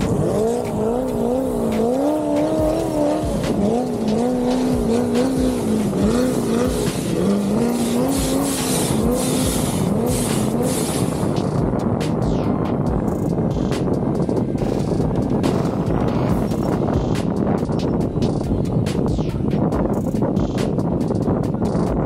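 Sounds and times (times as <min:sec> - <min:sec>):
car engine revving: 0:00.0 - 0:22.0
tires squealing: 0:00.0 - 0:22.0.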